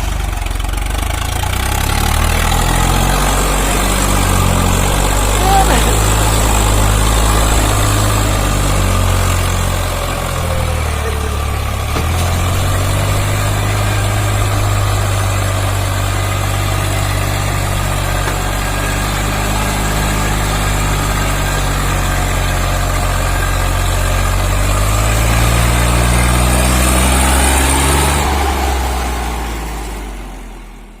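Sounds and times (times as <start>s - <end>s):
diesel tractor engine under load: 0.0s - 31.0s.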